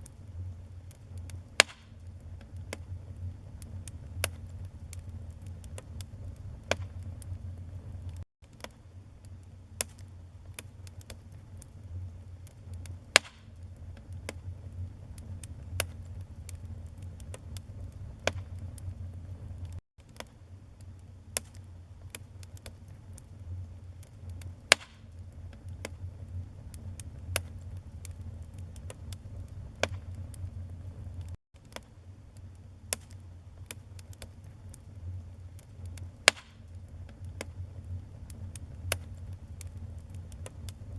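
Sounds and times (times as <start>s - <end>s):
fire flames rumbling: 0.0s - 8.2s, 9.0s - 19.8s, 20.6s - 31.4s, 32.1s - 40.9s
fire crackling and popping: 0.0s - 40.9s.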